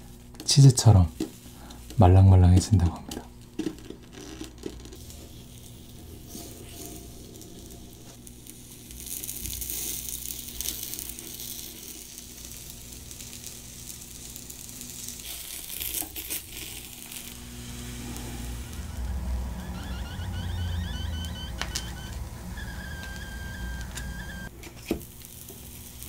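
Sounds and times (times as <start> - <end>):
rice cake sizzling in pan: 0.0 - 2.9, 4.1 - 26.0.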